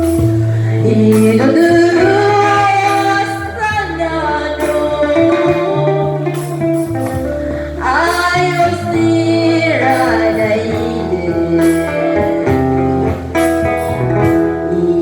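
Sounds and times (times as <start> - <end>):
bass notes: 0.0 - 15.0
gliding lead melody: 0.0 - 15.0
guitar: 0.0 - 15.0.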